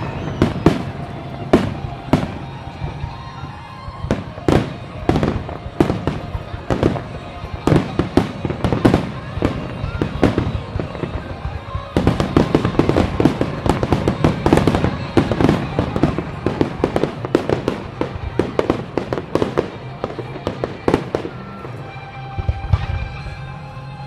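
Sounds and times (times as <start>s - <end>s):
fireworks bangs and crackling: 0.0s - 24.0s
music playing: 0.0s - 24.0s.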